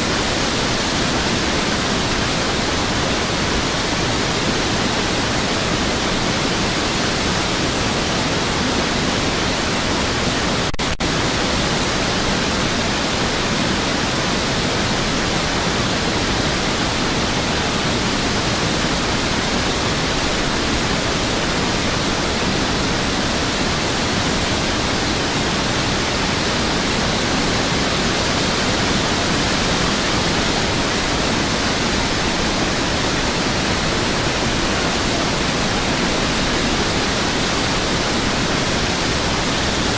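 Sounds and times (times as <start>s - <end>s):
rushing river whitewater: 0.0s - 39.9s.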